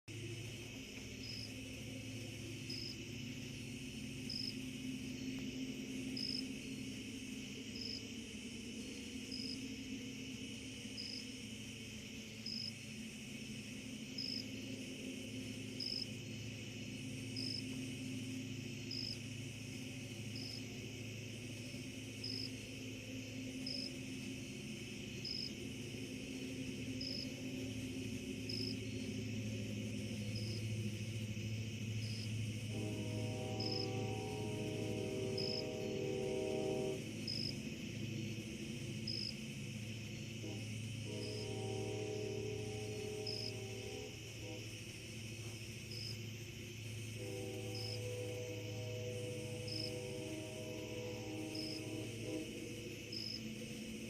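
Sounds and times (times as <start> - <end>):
distant diesel locomotive drone: 0.0 - 54.0
night insects chorus: 0.0 - 54.0.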